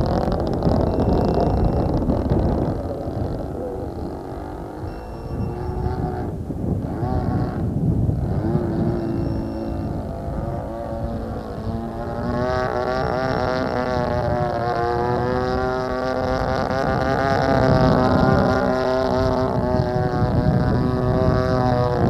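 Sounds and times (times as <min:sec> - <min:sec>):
model airplane engine running: 0:00.0 - 0:22.0.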